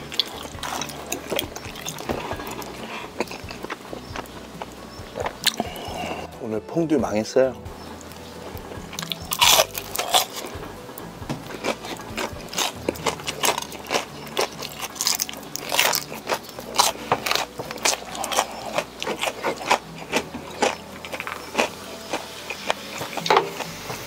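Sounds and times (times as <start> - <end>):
crispy fried shrimp being chewed: 0.0 - 6.3, 7.8 - 24.0.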